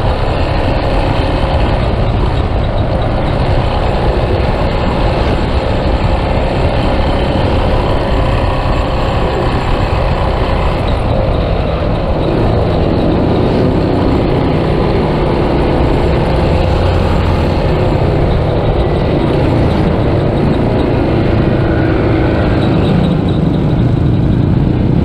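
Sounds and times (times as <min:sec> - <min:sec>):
motorcycle engine running: 0:00.0 - 0:25.0
wind rushing on microphone: 0:00.0 - 0:25.0.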